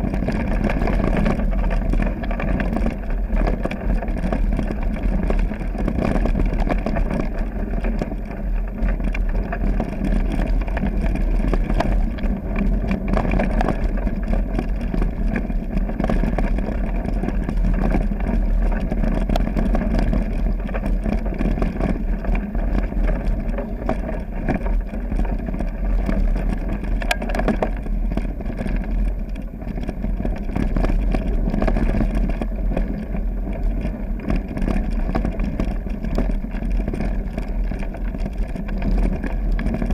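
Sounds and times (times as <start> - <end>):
bike rattling over stones: 0.0 - 39.9
wind and tyre rumble: 0.0 - 39.9.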